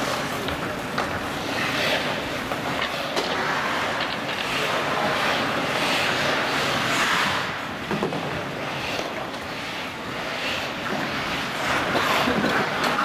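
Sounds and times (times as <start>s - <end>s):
skate blades scraping ice: 0.0s - 13.0s.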